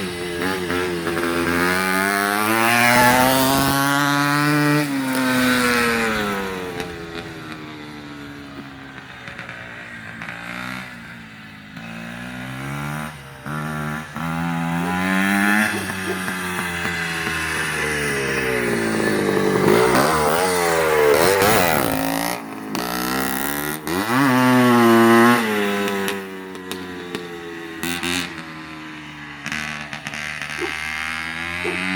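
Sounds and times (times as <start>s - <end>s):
motocross engine revving: 0.0s - 31.9s.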